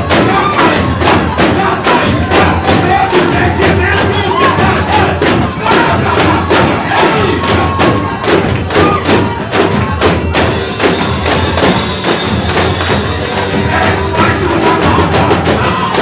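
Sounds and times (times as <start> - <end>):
fast drum beat: 0.0 - 16.0
jingling tambourines: 0.0 - 16.0
people singing: 0.0 - 16.0.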